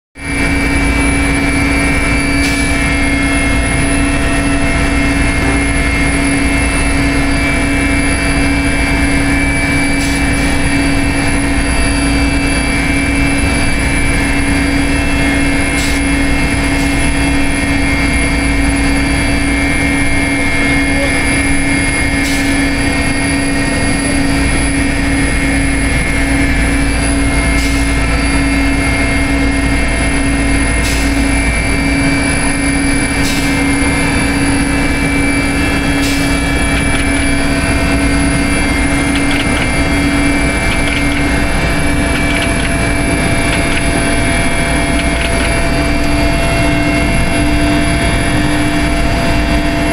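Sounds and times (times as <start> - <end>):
helicopter engine and rotor drone: 0.2 - 49.9
high turbine whine: 0.2 - 49.9.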